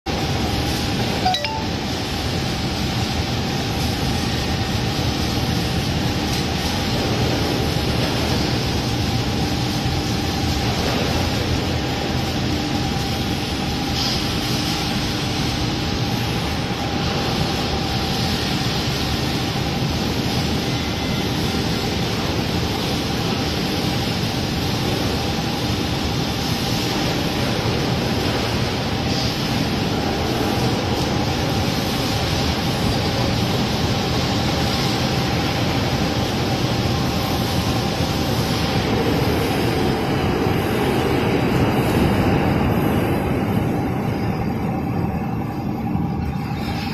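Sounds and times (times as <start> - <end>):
welding line hiss: 1.8 - 46.9.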